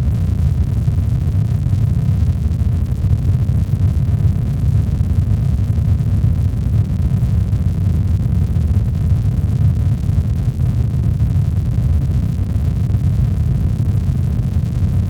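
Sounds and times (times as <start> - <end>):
deep synthetic rumble noise: 0.0 - 15.0.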